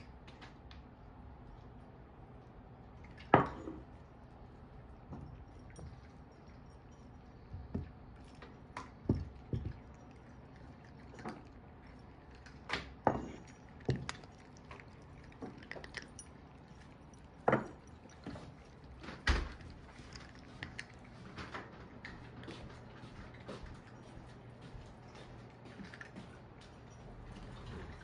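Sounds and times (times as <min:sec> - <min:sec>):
cats crunching kibble: 0:00.1 - 0:28.0.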